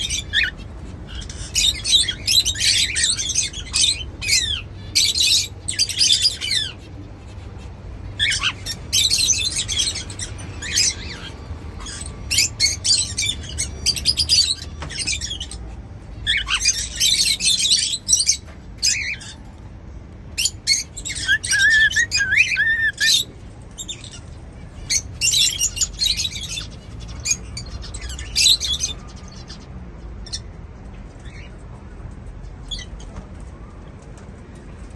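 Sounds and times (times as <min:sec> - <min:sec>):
cockatiels chirping: 0:00.0 - 0:19.5, 0:20.3 - 0:29.6.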